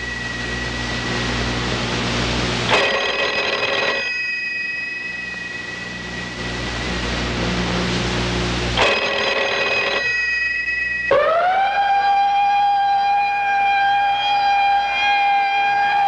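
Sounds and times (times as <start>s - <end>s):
siren-like pitched tone: 0.0s - 16.0s.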